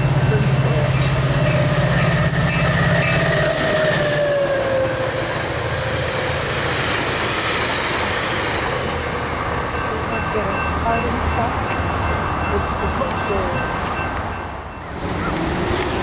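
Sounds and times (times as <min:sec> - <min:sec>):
locomotive engine drone: 0:00.0 - 0:16.0
train wheels rumbling on rails: 0:00.0 - 0:16.0.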